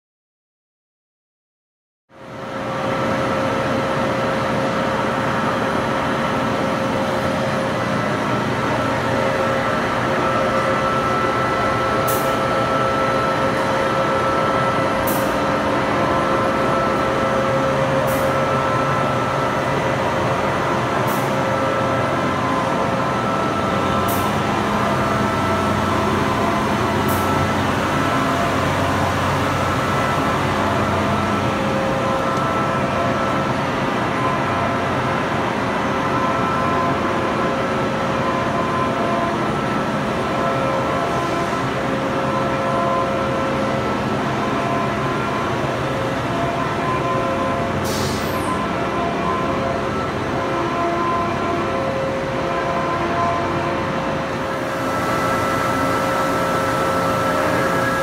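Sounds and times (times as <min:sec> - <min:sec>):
lathe mechanical hum and whine: 0:02.2 - 0:58.0.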